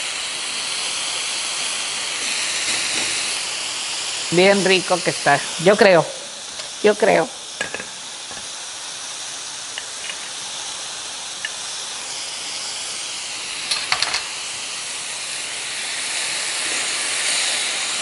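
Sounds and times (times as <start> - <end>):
steaks sizzling on a griddle: 0.0 - 18.0.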